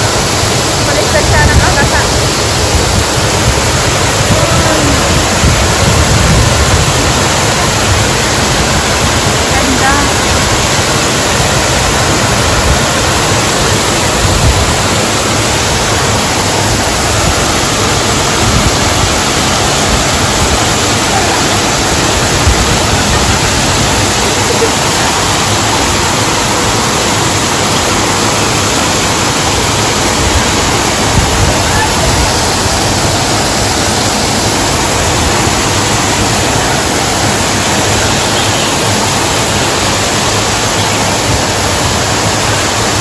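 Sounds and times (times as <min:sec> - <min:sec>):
waterfall splashing into pond: 0:00.0 - 0:43.0.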